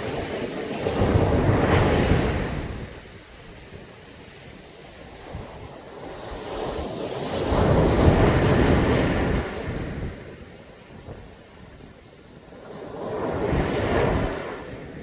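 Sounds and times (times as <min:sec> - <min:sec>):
sea waves crashing on beach: 0:00.0 - 0:15.0.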